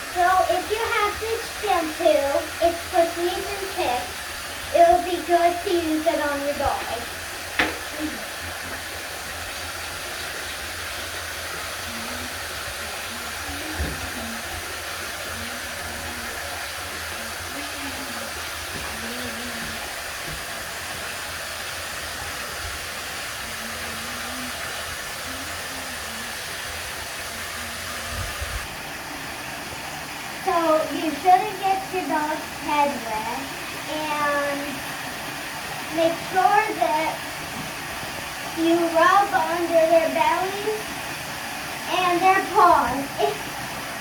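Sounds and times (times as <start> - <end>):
tap water running into bathtub: 0.0 - 44.0.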